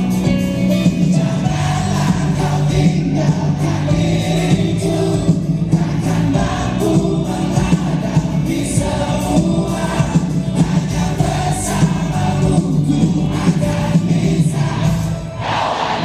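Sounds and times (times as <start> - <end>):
person singing: 0.0 - 15.0
live rock band playing: 0.0 - 15.4.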